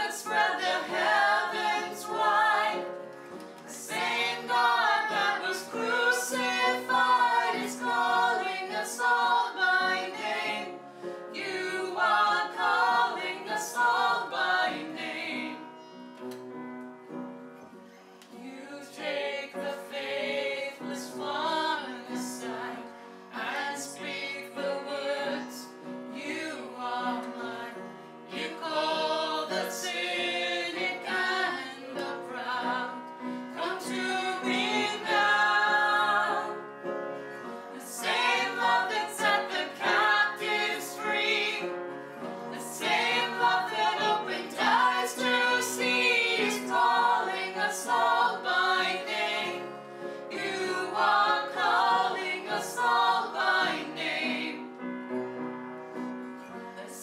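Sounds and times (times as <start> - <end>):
group singing a hymn: 0.0 - 15.7, 18.3 - 54.9.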